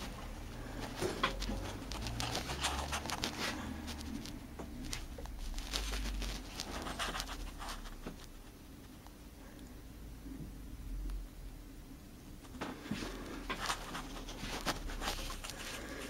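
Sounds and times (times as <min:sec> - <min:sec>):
rustling and light clicks: 0:00.0 - 0:09.7, 0:12.4 - 0:16.0.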